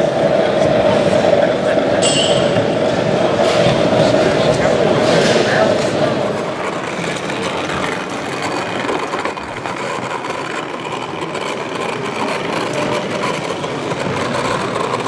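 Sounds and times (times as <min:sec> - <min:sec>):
hum of a large hall: 0:00.0 - 0:15.0
model railcar running on track: 0:00.0 - 0:15.0.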